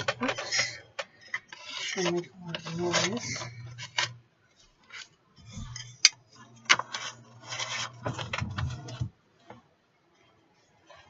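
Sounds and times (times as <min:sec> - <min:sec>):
coasters and cardboard scraping: 0:00.0 - 0:09.2.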